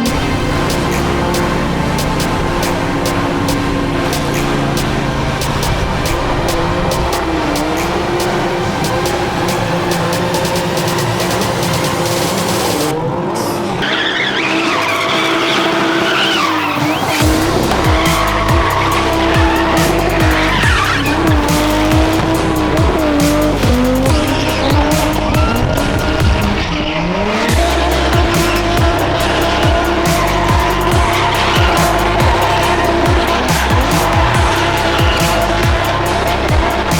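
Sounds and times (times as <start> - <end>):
music with steady beat: 0.0 - 13.0, 17.0 - 26.6, 27.5 - 36.9
car engine at high revs: 0.0 - 36.9
tyres squealing: 0.0 - 36.9.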